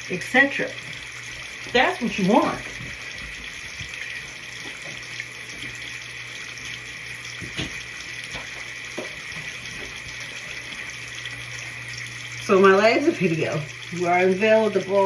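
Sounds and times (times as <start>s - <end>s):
sink tap running: 0.0s - 15.0s.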